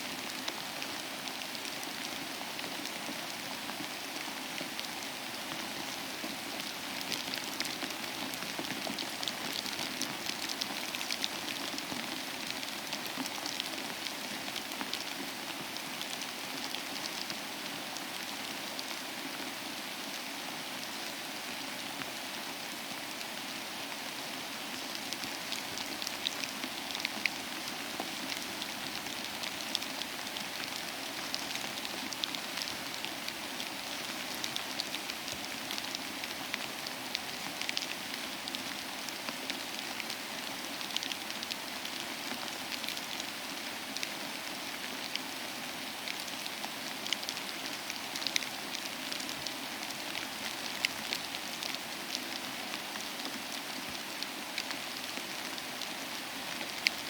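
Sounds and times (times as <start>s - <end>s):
rain on hard surface: 0.0s - 57.0s.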